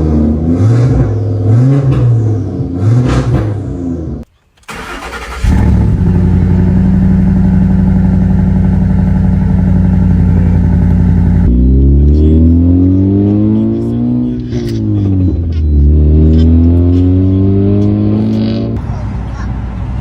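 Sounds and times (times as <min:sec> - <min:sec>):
car engine starting and running: 0:00.0 - 0:20.0.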